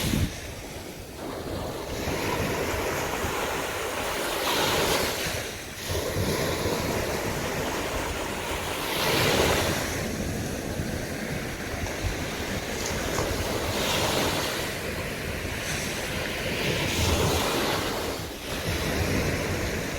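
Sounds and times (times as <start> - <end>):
sea waves breaking on a beach: 0.0 - 19.9
wind on the microphone: 0.0 - 19.9.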